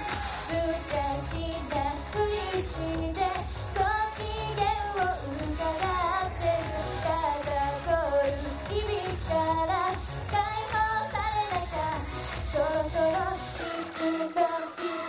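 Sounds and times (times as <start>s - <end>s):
backing music with steady beat: 0.0s - 15.0s
woman singing into microphone: 0.0s - 15.0s.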